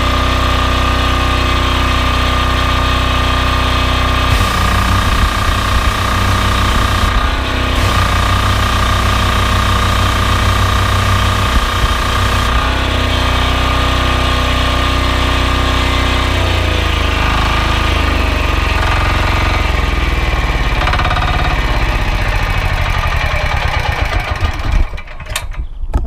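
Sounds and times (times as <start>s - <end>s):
diesel engine throbbing: 0.0s - 25.1s.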